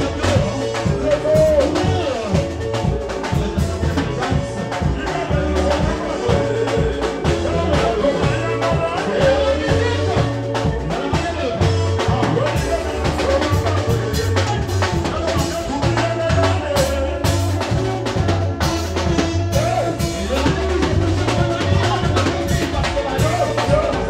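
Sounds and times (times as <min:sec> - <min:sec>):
bass line: 0:00.0 - 0:24.0
drum kit beat: 0:00.0 - 0:24.0
electric guitars: 0:00.0 - 0:24.0.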